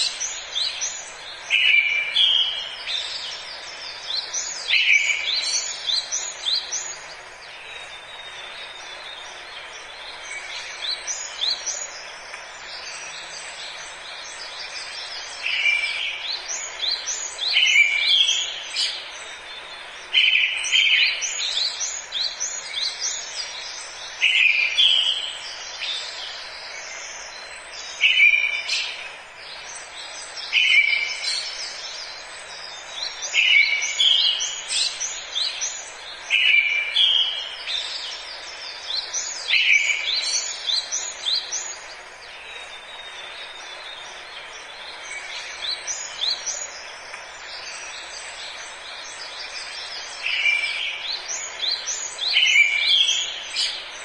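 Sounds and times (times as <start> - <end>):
birds chirping and trilling: 0.0 - 54.0
forest ambience hiss: 0.0 - 54.0.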